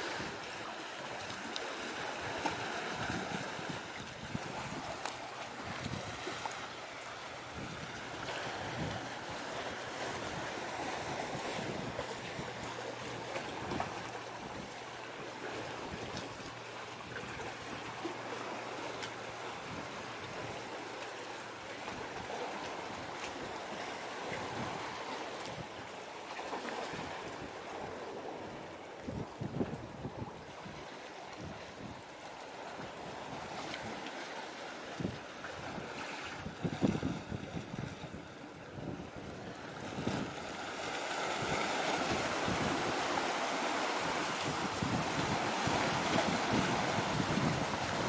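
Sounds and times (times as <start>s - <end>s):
sea noise: 0.0s - 48.0s
wind buffeting microphone: 1.1s - 18.0s, 19.4s - 20.7s, 21.7s - 25.9s, 26.8s - 34.1s, 34.9s - 48.0s.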